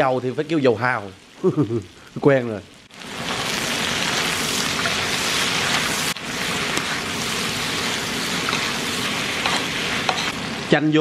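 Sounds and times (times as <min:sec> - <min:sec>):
crawfish sizzling in butter: 0:00.0 - 0:11.0.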